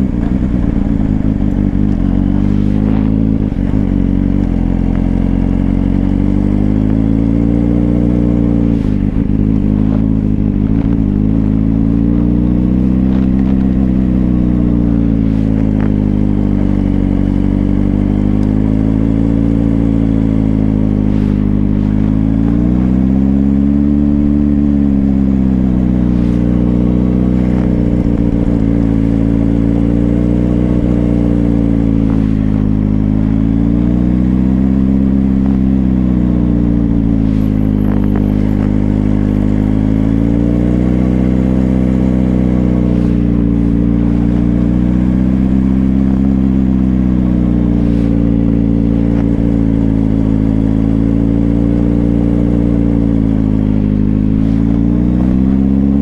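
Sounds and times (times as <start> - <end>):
motorcycle engine at low revs: 0.0 - 56.0.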